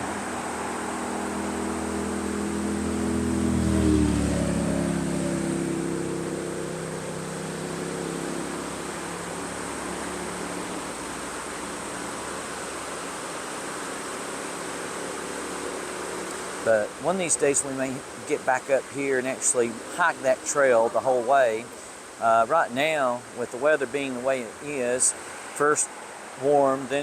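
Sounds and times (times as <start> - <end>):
car passing: 0.0 - 27.0
waterfall rushing: 4.7 - 27.0.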